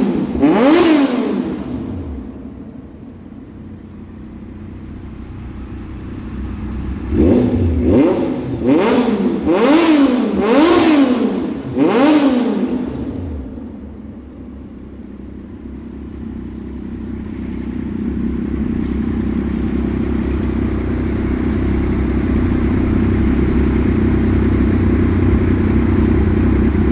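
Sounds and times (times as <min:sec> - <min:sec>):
motorcycle engine idling: 0:00.0 - 0:26.9
motorcycle engine throttle blips: 0:00.0 - 0:26.9.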